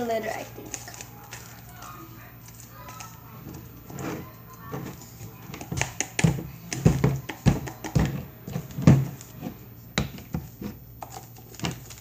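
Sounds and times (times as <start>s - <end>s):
slime being mixed: 0.0s - 12.0s.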